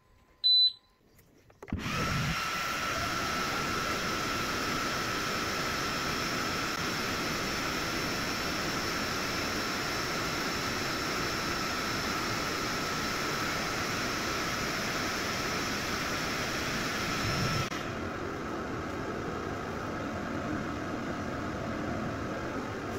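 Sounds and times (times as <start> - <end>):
fan-like hum: 0.0 - 22.9
laser cutter whirring and whining: 1.8 - 22.9.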